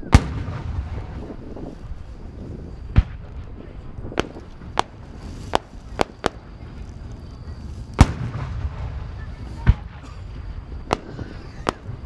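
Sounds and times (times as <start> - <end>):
firework bangs: 0.0 - 12.0
low outdoor rumble: 0.0 - 12.0.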